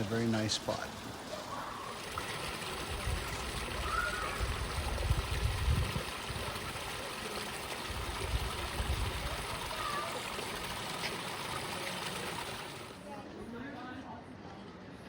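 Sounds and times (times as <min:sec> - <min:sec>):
water dripping into pool: 0:00.0 - 0:12.9
water trickling and splashing: 0:00.0 - 0:13.1.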